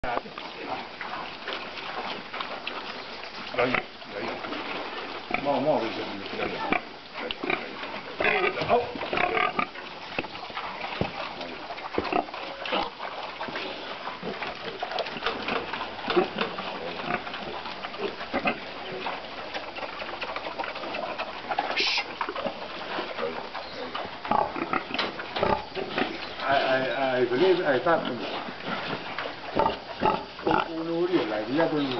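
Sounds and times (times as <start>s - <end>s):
pig grunting and snuffling: 0.0s - 31.9s.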